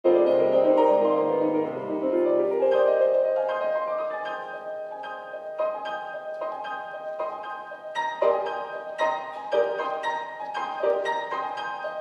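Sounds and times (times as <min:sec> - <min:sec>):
plucked instrumental melody: 0:00.1 - 0:12.0.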